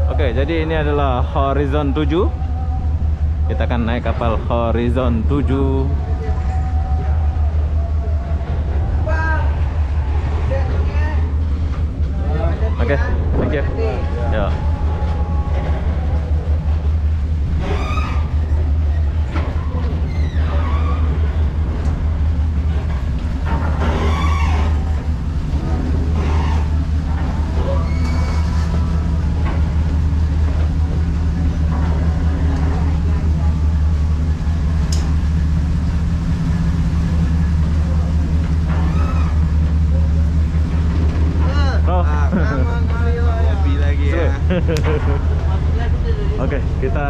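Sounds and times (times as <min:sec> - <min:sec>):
faint voices: 0:00.0 - 0:23.4, 0:24.6 - 0:44.5
diesel engines idling: 0:00.0 - 0:47.0.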